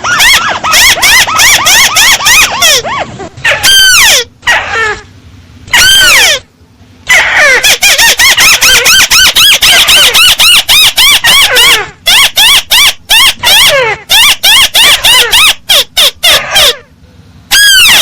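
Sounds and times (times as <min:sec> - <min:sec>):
crake calling: 0:00.0 - 0:05.1, 0:05.7 - 0:16.9.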